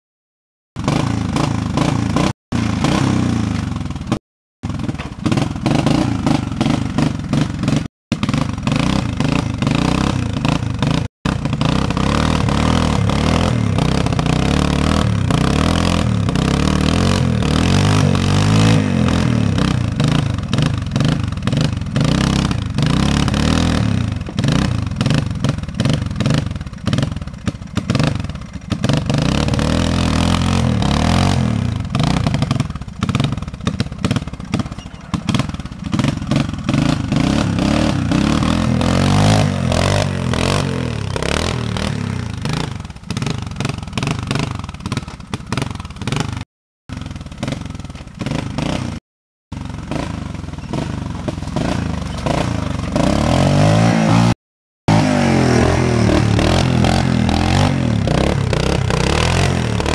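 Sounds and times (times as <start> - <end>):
atv engine revving under load: 0.8 - 59.9.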